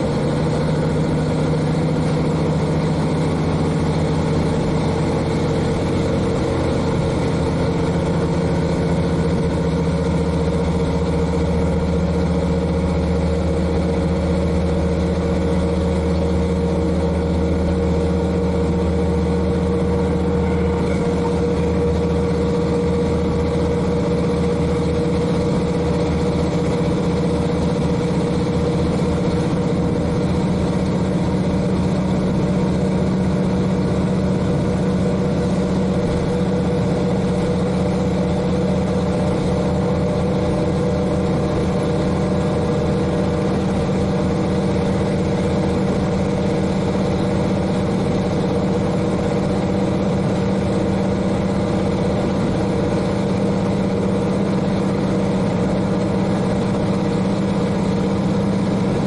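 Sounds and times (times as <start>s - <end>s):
railcar diesel engine droning: 0.0s - 59.0s.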